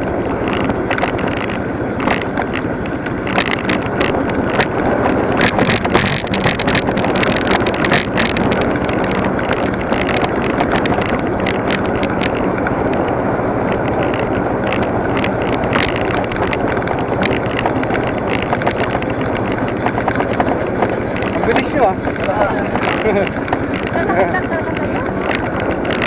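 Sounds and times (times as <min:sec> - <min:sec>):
motorcycle engine hum: 0:00.0 - 0:26.0
wind and road noise: 0:00.0 - 0:26.0
small clicks and knocks: 0:00.2 - 0:26.0.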